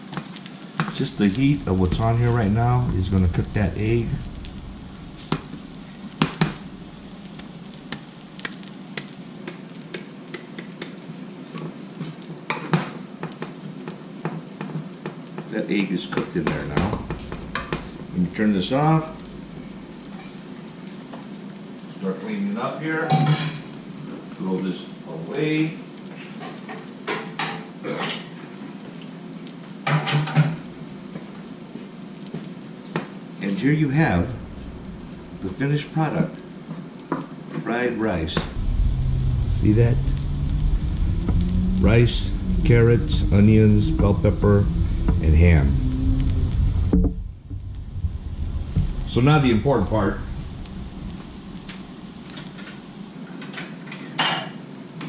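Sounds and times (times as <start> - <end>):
rice and egg sizzling in a pan: 0.0 - 44.2, 44.8 - 55.0.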